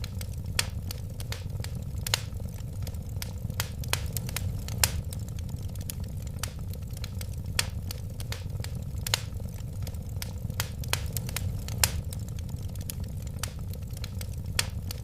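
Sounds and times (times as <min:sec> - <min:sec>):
low rumble of burning: 0:00.0 - 0:15.0
wood fire popping and snapping: 0:00.0 - 0:15.0.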